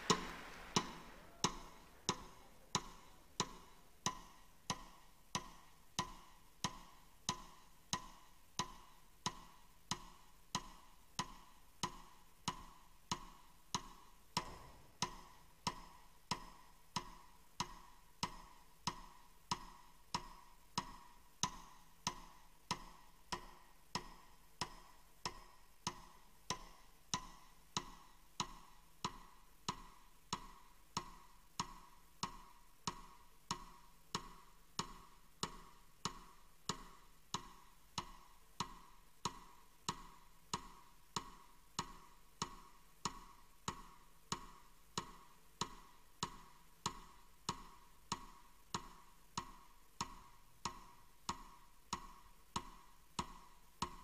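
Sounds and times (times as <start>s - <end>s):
metronome ticking: 0.8s - 54.0s.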